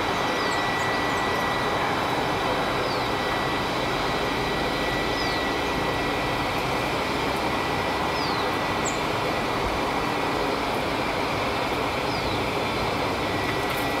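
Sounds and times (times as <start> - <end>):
rushing background noise: 0.0 - 14.0.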